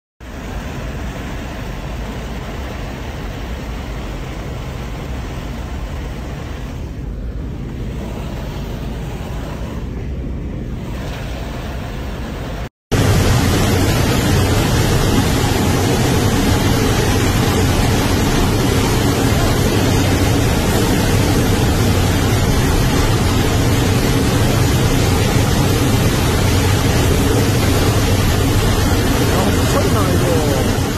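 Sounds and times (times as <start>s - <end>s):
loud rush of wind: 0.3s - 30.9s.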